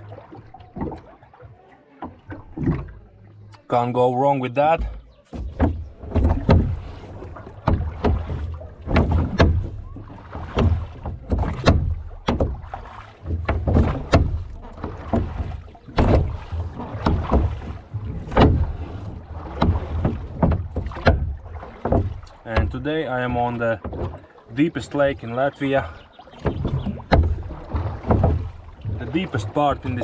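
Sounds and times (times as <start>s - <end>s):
oars knocking in oarlocks: 0.0s - 3.7s, 4.4s - 30.0s.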